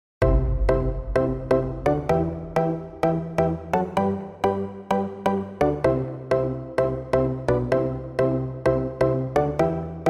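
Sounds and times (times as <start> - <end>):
music with repeated chords: 0.2 - 10.0.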